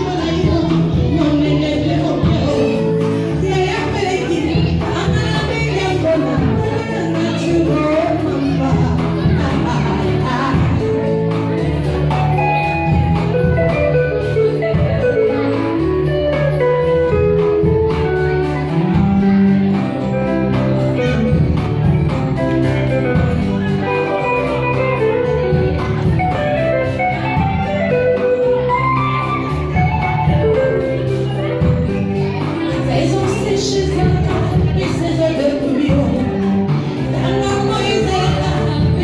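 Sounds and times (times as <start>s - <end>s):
live band music: 0.0s - 39.0s.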